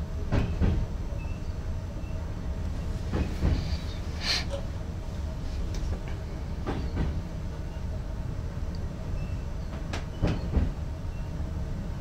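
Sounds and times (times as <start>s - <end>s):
train running low rumble: 0.0s - 12.0s.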